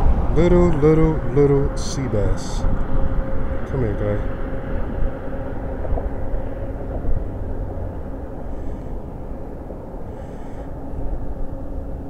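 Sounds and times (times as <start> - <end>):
faint engine hum: 0.0 - 12.0
low rumble of vehicle traffic: 0.0 - 12.0.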